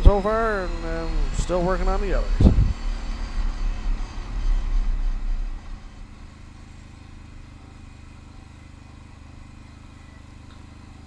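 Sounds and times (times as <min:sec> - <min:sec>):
atv engine on gravel: 0:00.0 - 0:11.0.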